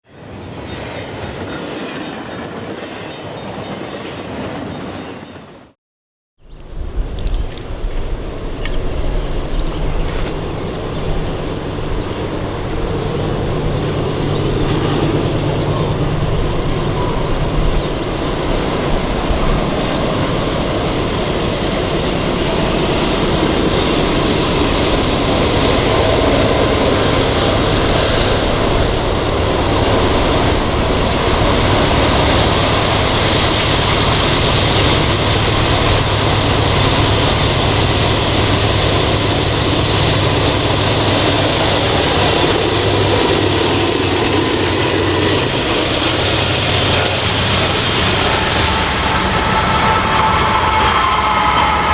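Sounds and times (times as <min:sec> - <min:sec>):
diesel locomotive drone: 0:06.4 - 0:51.9
train wheels rumbling on rail: 0:06.5 - 0:51.9.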